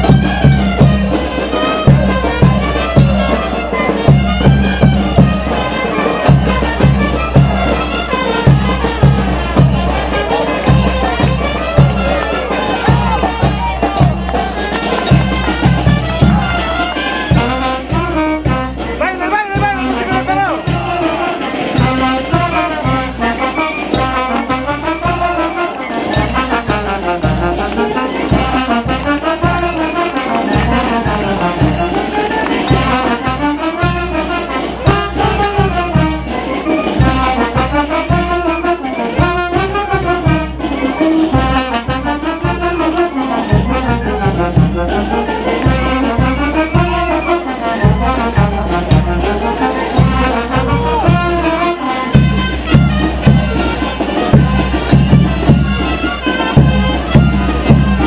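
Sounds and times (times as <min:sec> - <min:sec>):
brass band playing dance tune: 0:00.0 - 0:58.0
steady drum beat: 0:00.0 - 0:58.0.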